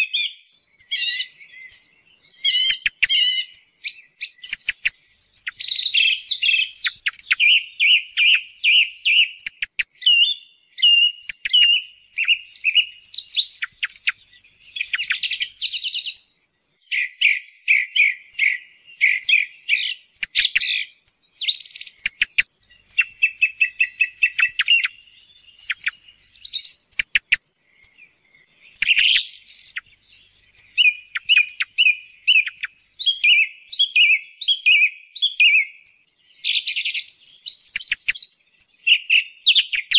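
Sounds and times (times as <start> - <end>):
song thrush singing: 0.0 - 39.9.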